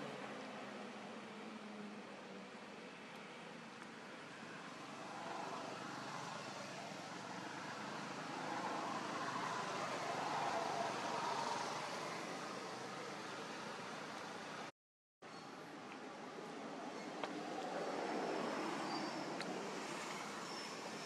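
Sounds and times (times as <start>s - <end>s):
rushing outdoor background noise: 0.0s - 14.7s, 15.3s - 21.0s.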